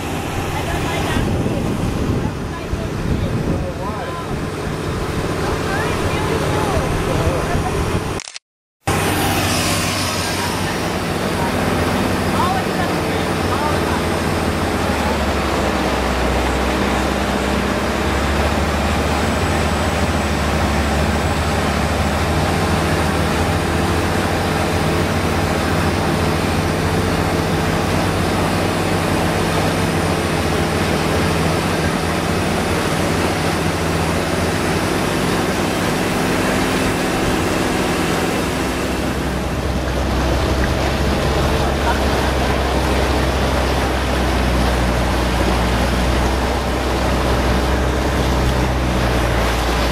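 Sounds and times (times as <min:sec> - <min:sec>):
boat engine running: 0:00.0 - 0:08.3, 0:08.9 - 0:49.9
high turbo whine: 0:08.9 - 0:49.9.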